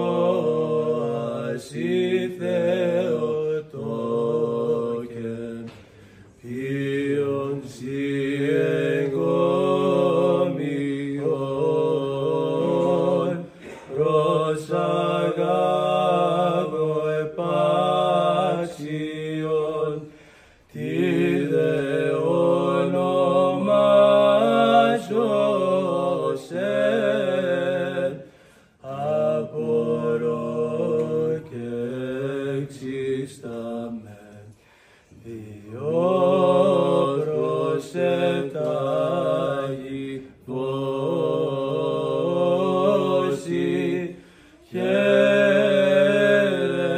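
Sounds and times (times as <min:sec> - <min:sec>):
men chanting a hymn: 0:00.0 - 0:46.9.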